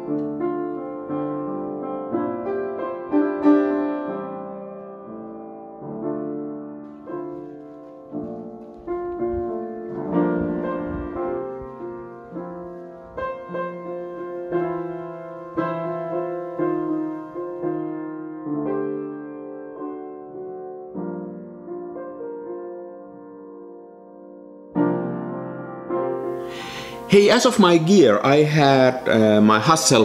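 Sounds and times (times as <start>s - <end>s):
slow gentle piano music: 0.0s - 30.0s.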